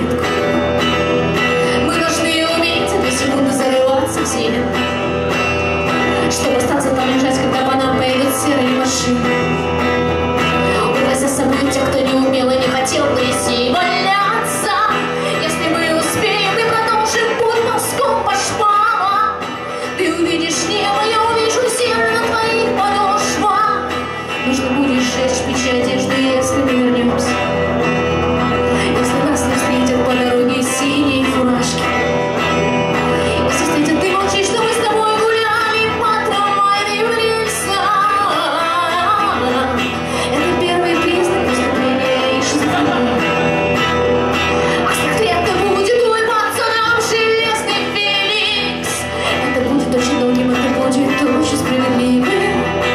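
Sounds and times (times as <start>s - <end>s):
electric guitar: 0.0s - 52.9s
woman singing: 0.0s - 52.9s.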